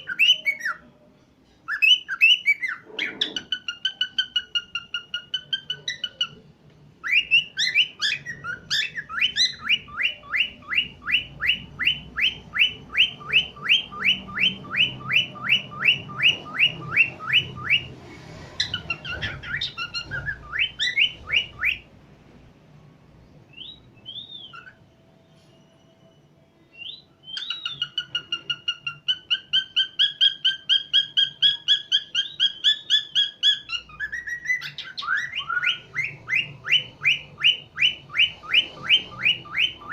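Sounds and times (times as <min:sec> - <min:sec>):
cockatiel whistling: 0:00.0 - 0:00.9, 0:01.7 - 0:06.4, 0:07.0 - 0:21.9, 0:23.5 - 0:39.9.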